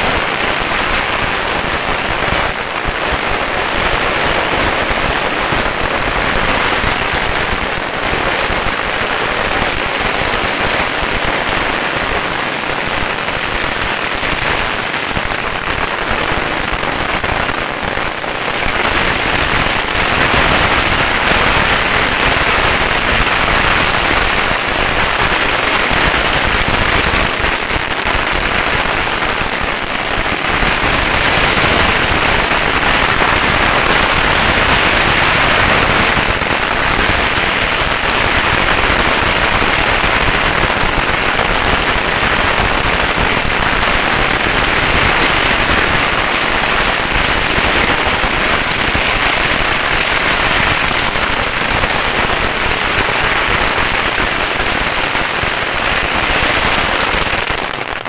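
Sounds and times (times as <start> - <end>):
firecrackers banging: 0.0 - 58.0.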